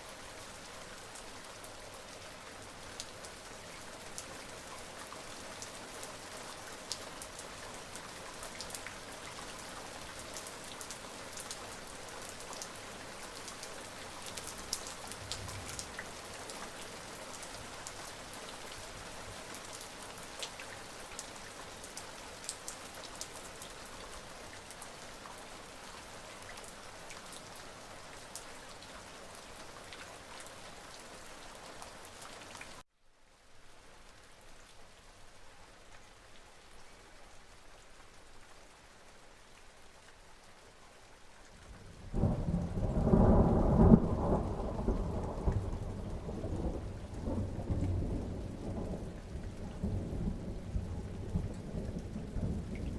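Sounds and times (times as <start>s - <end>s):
rain with drops tapping: 0.0s - 52.9s.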